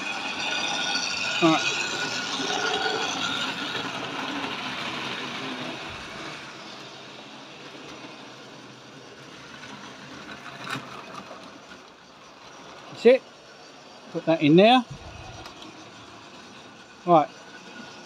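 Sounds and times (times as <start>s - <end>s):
model train motor whirring: 0.0s - 18.0s.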